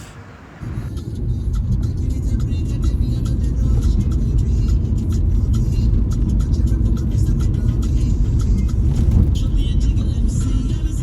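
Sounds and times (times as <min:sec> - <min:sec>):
bass-heavy background music: 0:00.7 - 0:11.0.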